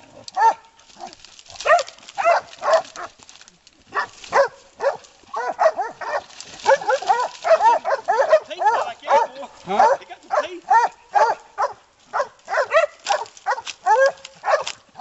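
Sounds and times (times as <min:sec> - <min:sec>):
dog barking sharply: 0:01.6 - 0:03.1, 0:04.0 - 0:14.8.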